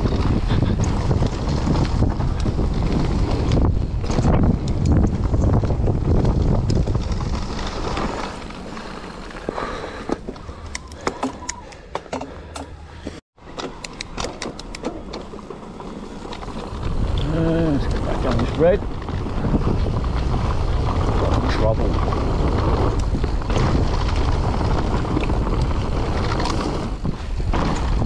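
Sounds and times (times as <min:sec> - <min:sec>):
tyres rumbling over dirt: 0:00.0 - 0:11.6, 0:12.3 - 0:28.0
wind rushing over microphone: 0:00.0 - 0:11.8, 0:15.7 - 0:28.0
bike ticks and rattles: 0:00.0 - 0:28.0.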